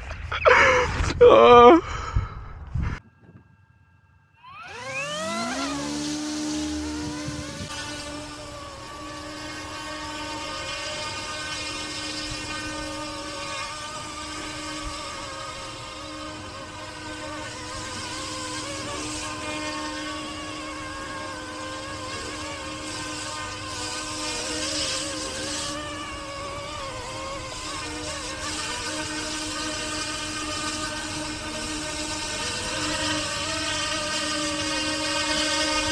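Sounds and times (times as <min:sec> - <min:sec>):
rc helicopter motor whine: 0:03.2 - 0:35.9.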